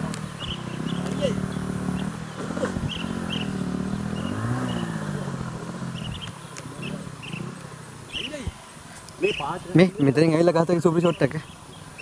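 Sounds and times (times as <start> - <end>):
bird chirps: 0.0 - 8.5, 9.2 - 12.0
vehicle engine running: 0.0 - 10.0.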